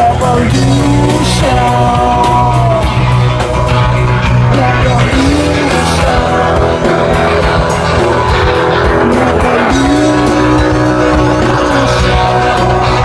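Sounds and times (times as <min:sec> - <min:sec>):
rock band instrumental: 0:00.0 - 0:13.0.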